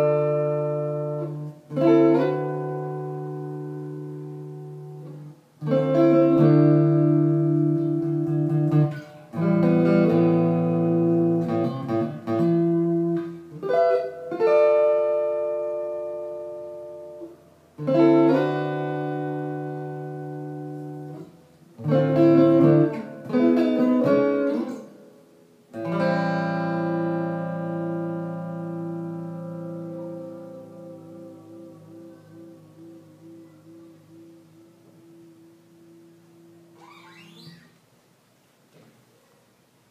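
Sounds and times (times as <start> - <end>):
electric guitar chords and phrases: 0.0 - 37.6.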